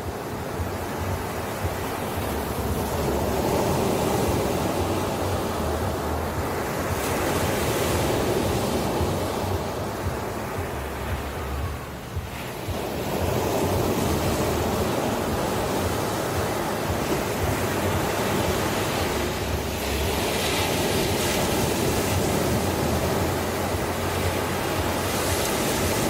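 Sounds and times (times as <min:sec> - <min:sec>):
ocean surf washing in: 0:00.0 - 0:26.0.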